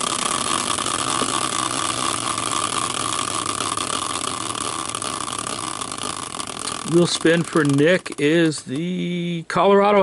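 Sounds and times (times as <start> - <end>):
caster wheel whirring: 0.0 - 10.0.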